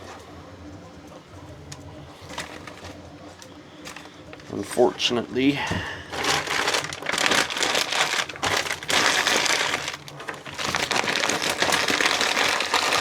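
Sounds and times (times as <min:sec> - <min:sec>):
crumpling and crinkling: 0:00.0 - 0:13.0.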